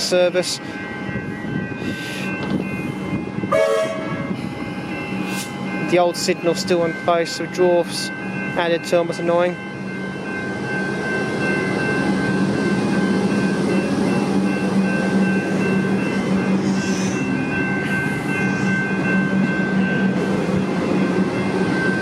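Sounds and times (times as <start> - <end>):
electric train running past: 0.0 - 22.0.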